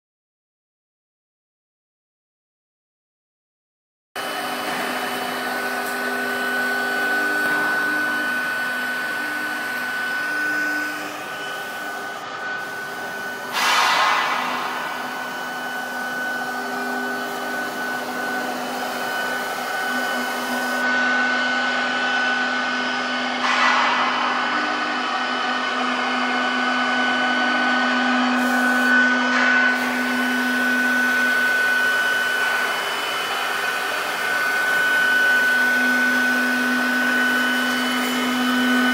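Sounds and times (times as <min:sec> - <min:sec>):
cnc router motor running: 0:04.2 - 0:38.9
high spindle whine: 0:04.2 - 0:38.9.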